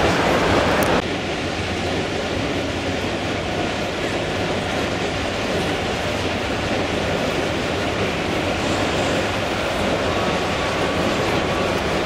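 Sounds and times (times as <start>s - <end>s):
model trains rumbling on track: 0.0s - 12.0s.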